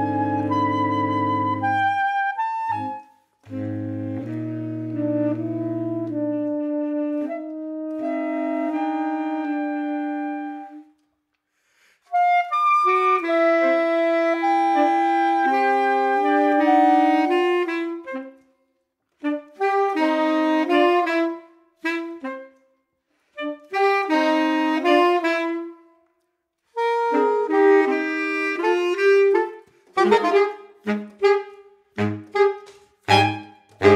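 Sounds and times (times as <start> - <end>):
saxophone quartet playing: 0.0 - 11.0, 12.1 - 18.5, 19.2 - 22.6, 23.4 - 25.9, 26.8 - 33.9.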